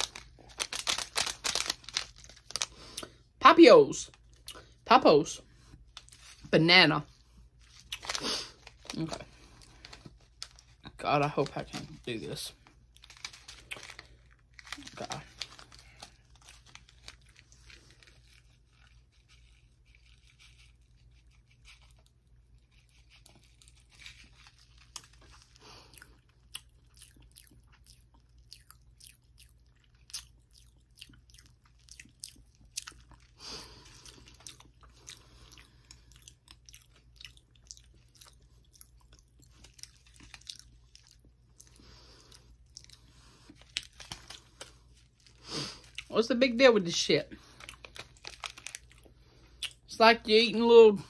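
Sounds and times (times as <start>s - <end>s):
chewing and crunching candies: 0.0s - 6.5s, 7.1s - 49.9s.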